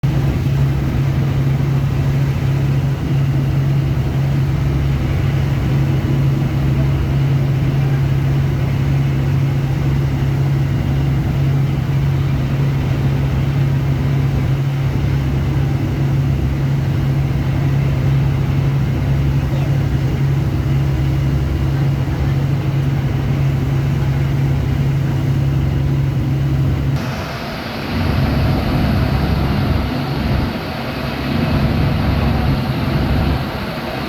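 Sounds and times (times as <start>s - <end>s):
boat engine drone: 0.0s - 34.0s
constant rushing noise: 0.0s - 34.0s.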